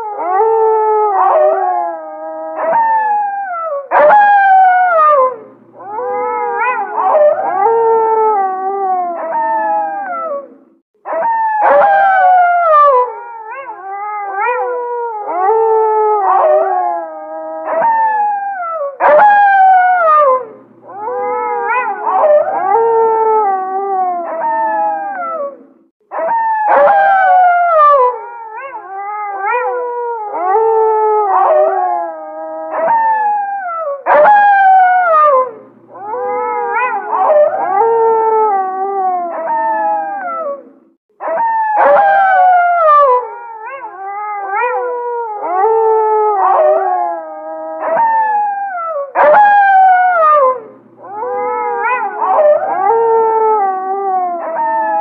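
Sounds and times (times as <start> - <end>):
wolves howling in chorus: 0.0 - 55.0.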